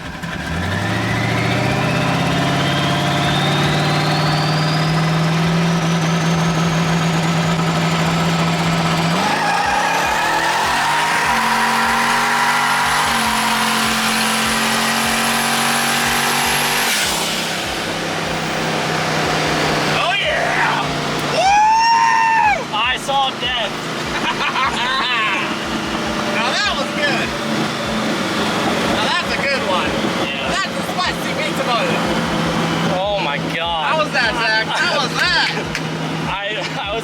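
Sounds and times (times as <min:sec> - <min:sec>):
car engine running loud: 0:00.0 - 0:37.0.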